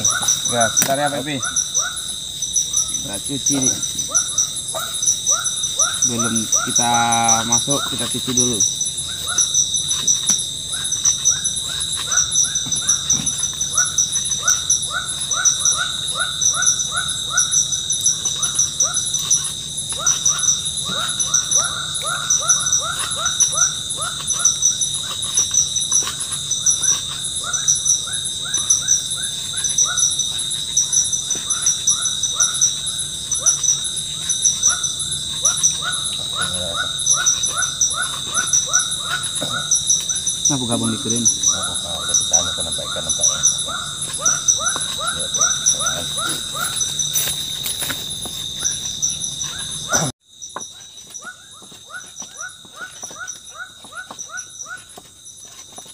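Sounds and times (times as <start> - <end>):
insect trills pulsing: 0.0 - 55.9
insects buzzing: 0.0 - 55.9.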